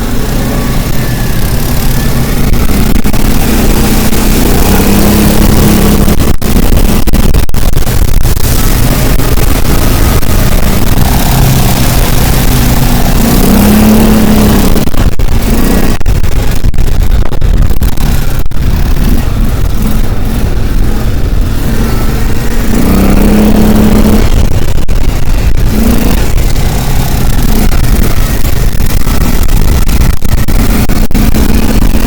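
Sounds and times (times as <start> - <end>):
car engine: 0.0 - 32.0
road noise: 0.0 - 32.0.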